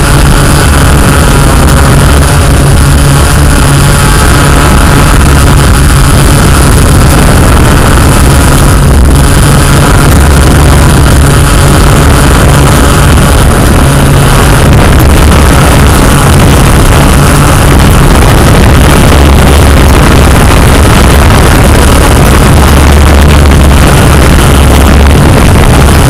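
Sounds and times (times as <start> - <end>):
drone propellers whirring: 0.0 - 26.0
low hum: 0.0 - 26.0
wind noise: 0.0 - 26.0.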